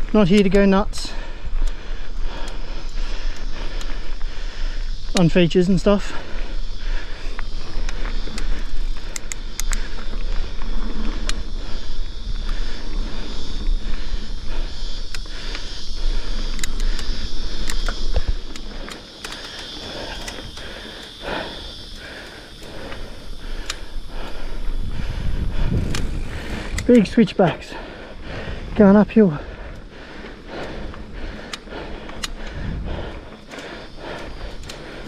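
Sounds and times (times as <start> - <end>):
bike clicks and rattles: 0.0 - 35.0
rider breathing hard: 0.0 - 35.0
wind and riding noise: 0.0 - 35.0.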